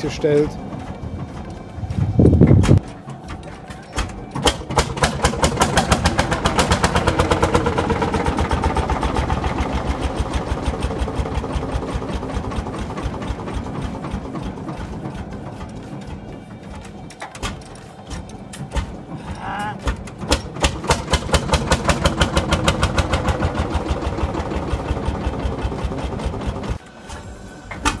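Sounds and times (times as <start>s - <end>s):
engine running with even beat: 0.0s - 28.0s.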